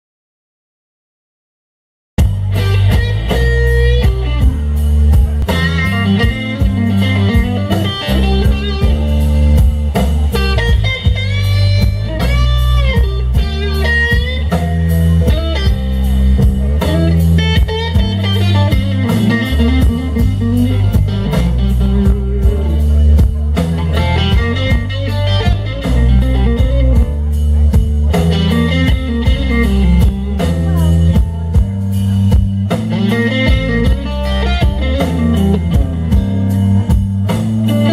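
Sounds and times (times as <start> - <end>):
bass guitar: 2.2 - 37.9
drum kit: 2.2 - 37.9
electric guitar with string bends: 2.2 - 37.9.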